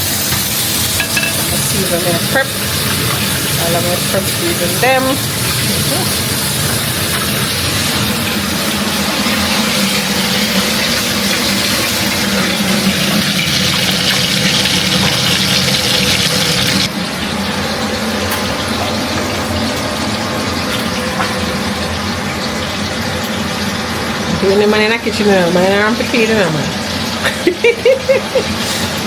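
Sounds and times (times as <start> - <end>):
water running from a tap: 0.0 - 17.6, 18.4 - 29.0.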